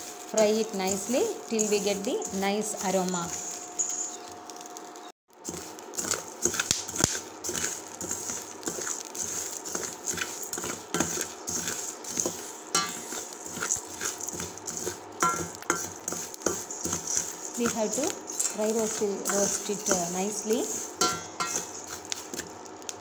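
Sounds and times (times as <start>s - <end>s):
metal spoon scraping a pan: 0.0s - 4.3s, 5.4s - 22.5s
seeds rattling in a pan: 0.0s - 23.0s.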